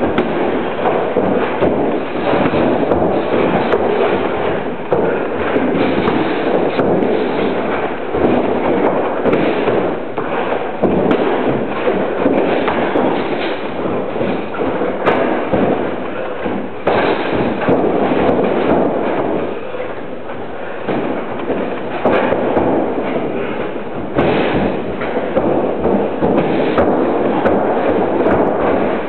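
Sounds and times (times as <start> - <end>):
boxing gloves thudding: 0.0 - 29.0
feet stamping on canvas: 0.0 - 29.0.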